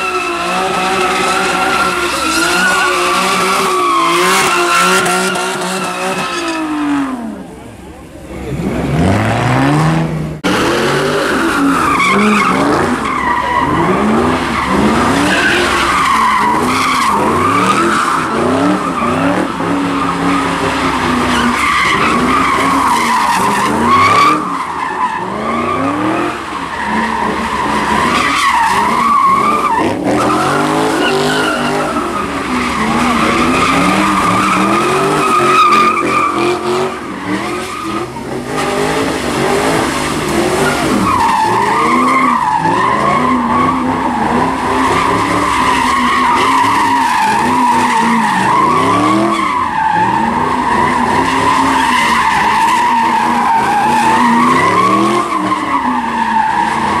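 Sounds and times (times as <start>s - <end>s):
tyres squealing: 0.0s - 6.7s, 10.9s - 57.0s
car engine revving: 0.0s - 57.0s.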